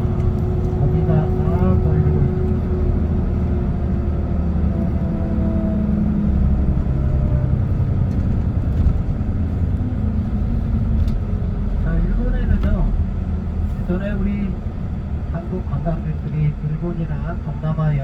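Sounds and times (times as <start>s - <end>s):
car road noise cruising: 0.0s - 17.7s.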